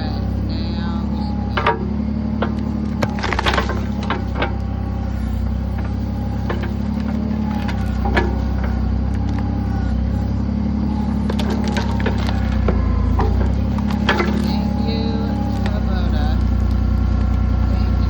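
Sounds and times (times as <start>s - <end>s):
diesel engine running under load: 0.0s - 18.0s
sharp knocks and clanks: 0.0s - 18.0s.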